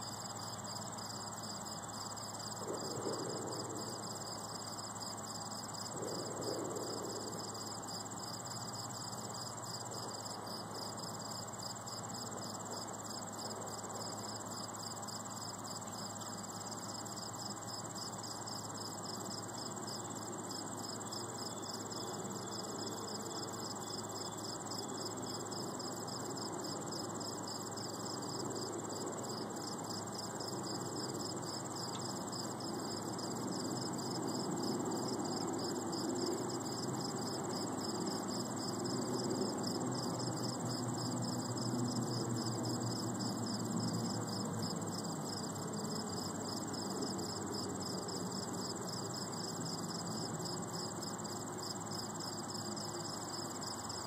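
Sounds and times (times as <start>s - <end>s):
continuous high insect trill: 0.0s - 54.0s
low background noise: 0.0s - 54.0s
pulsing high insect chirp: 0.0s - 54.0s.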